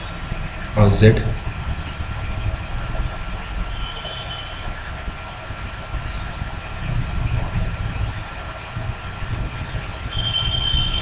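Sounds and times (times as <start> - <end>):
faint whine and hiss: 0.0 - 11.0.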